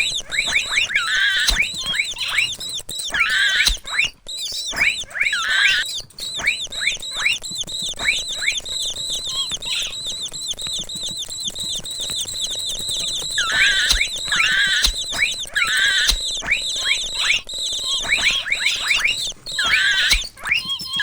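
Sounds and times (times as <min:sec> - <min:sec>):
mouse squeaking: 0:00.0 - 0:21.0.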